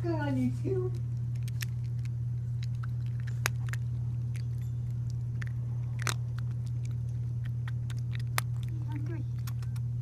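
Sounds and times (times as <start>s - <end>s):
steady low hum: 0.0s - 10.0s
cat crunching dry kibble: 0.7s - 10.0s.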